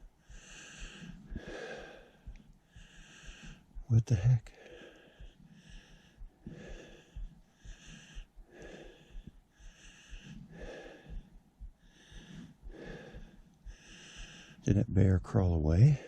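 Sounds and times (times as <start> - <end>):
man breathing heavily: 0.0 - 14.8
soft low thumps: 0.0 - 16.0.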